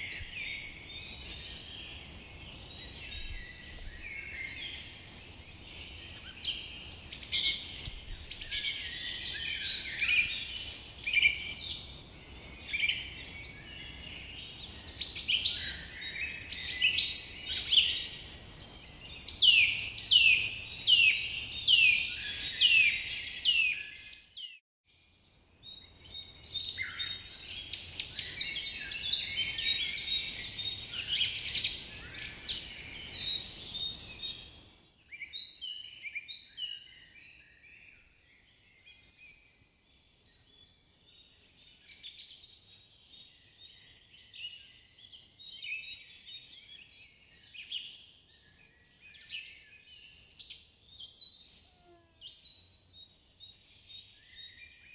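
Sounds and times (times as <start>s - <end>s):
birds chirping in chorus: 0.0s - 54.9s.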